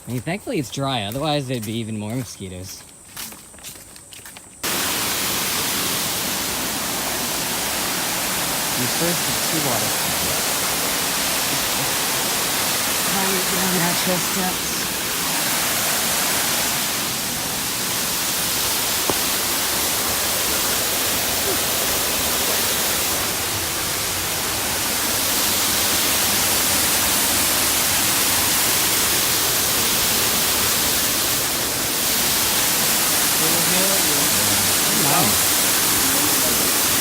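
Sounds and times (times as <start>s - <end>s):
waterfall rushing: 4.6s - 37.0s.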